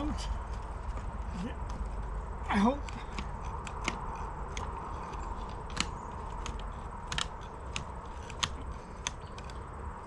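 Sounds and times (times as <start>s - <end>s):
metal stakes clinking: 0.0s - 9.7s
low steady rumble: 0.0s - 10.0s.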